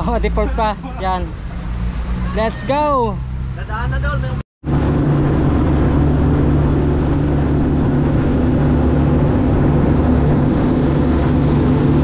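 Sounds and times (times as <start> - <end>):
outboard motors running: 0.0 - 12.0
water rushing from wake: 0.0 - 12.0.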